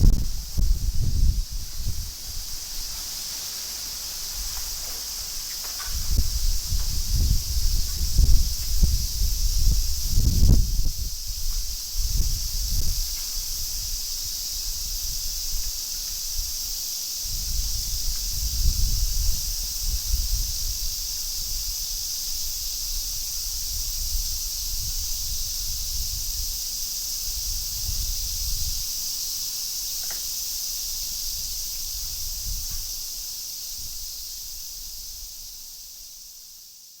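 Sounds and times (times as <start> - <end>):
wind rumbling on microphone: 0.0 - 3.2, 4.2 - 29.4, 30.3 - 35.5
high insect chorus: 0.0 - 37.0
wind gusting through trees: 0.0 - 37.0.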